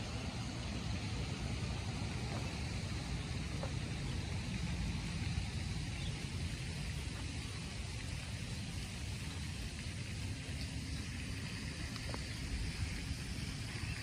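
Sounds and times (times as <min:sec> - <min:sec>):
low steady rumble: 0:00.0 - 0:14.0
steady rain falling: 0:00.0 - 0:14.0.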